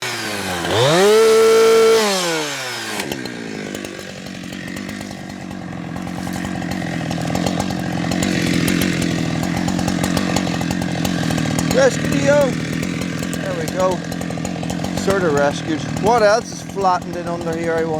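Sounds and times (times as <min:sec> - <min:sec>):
chainsaw engine revving: 0:00.0 - 0:17.9.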